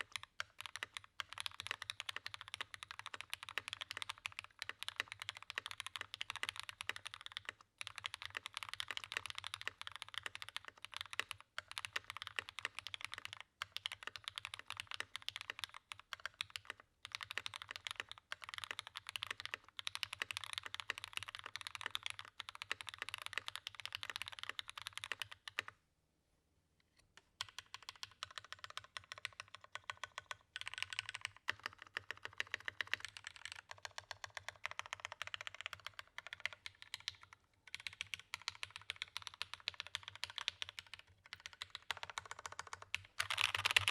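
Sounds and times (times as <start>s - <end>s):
mechanical keyboard typing: 0.0s - 25.7s, 27.4s - 43.9s.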